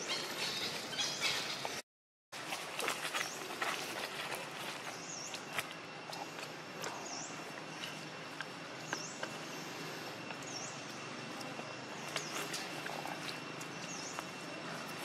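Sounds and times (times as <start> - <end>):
high insect drone: 2.8 - 15.0.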